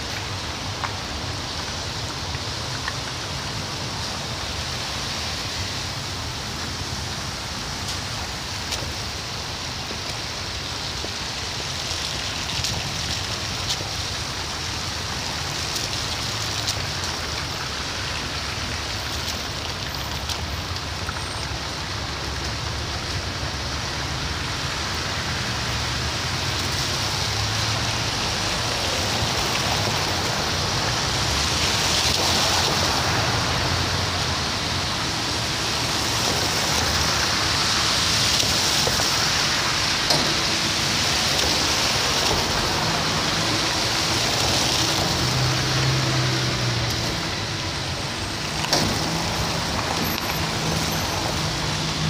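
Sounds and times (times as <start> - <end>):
engines rumbling and idling: 0.0 - 52.0
tyres hissing on wet road: 0.0 - 52.0.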